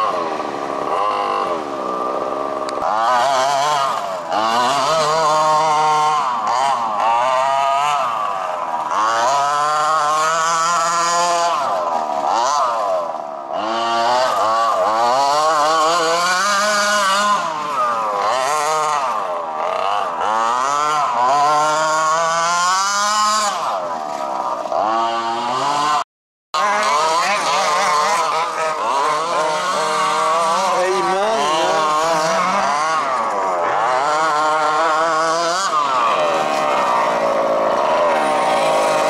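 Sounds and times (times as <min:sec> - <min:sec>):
small engine revving: 0:00.0 - 0:26.0, 0:26.6 - 0:39.0.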